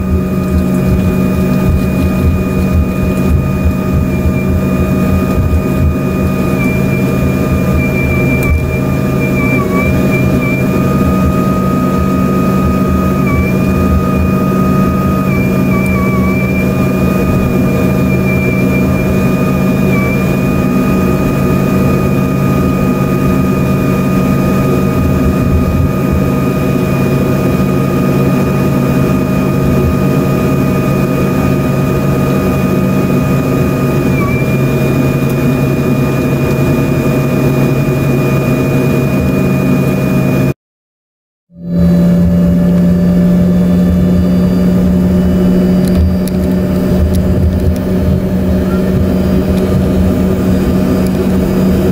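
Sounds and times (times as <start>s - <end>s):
jet engine rumble in cabin: 0.0s - 40.5s, 41.6s - 51.9s
high engine whine: 0.0s - 40.6s, 41.5s - 51.9s.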